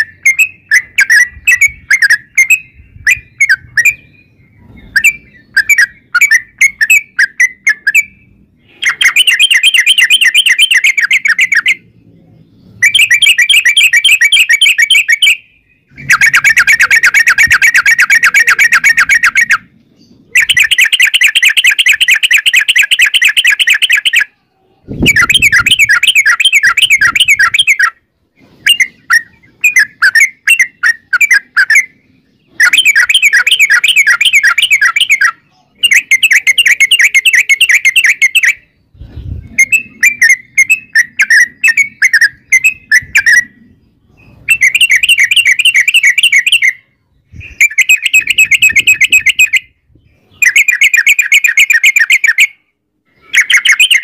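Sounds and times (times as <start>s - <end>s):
bird singing rolling trills: 0.0s - 54.0s.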